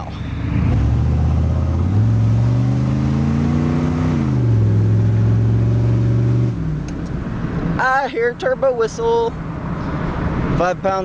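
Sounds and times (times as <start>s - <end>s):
diesel truck engine accelerating: 0.0s - 11.0s.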